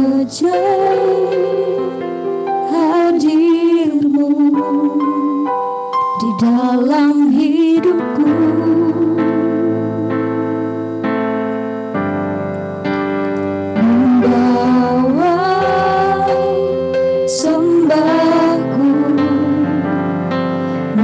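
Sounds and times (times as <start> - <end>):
woman singing: 0.0 - 10.9, 13.8 - 20.2
sustained keyboard chords: 0.0 - 21.0.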